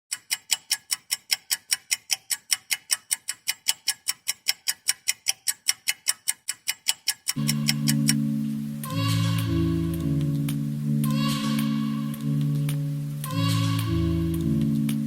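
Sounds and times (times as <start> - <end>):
fast clock-like ticking: 0.1 - 15.0.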